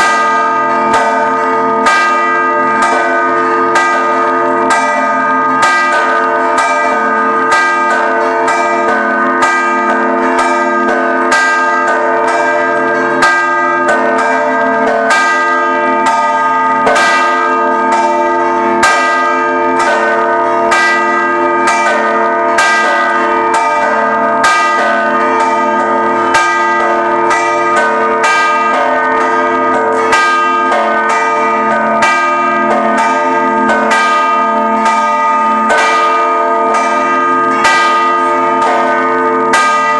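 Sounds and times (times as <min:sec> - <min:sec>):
church bells ringing a peal: 0:00.0 - 0:39.9.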